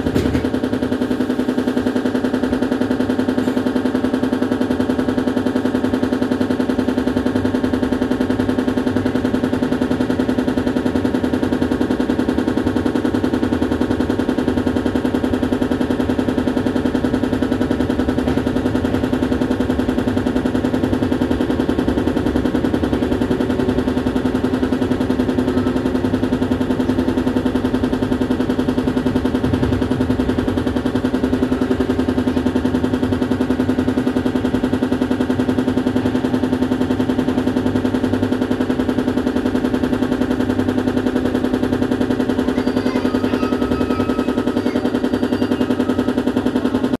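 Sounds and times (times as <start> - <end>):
train rattling over steady hum: 0.0 - 47.0.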